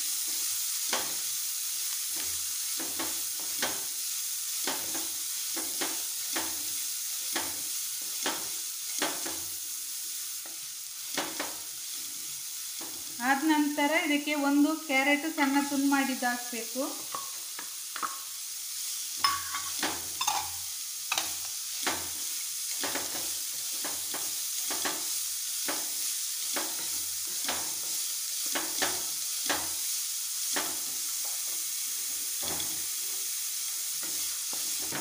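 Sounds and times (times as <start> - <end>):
vegetables sizzling in frying pan: 0.0 - 35.0.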